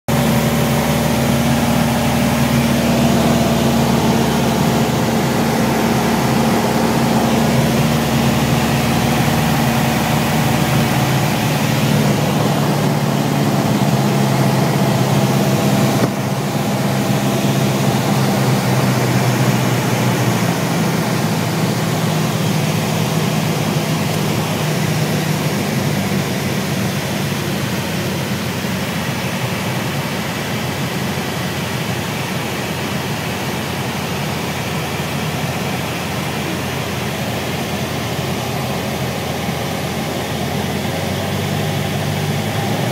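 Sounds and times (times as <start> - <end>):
light aircraft engine droning: 0.1 - 42.9.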